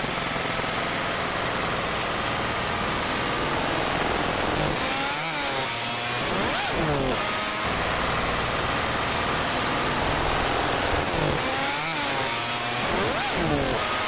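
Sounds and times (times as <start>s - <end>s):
small motor running: 1.5s - 14.0s.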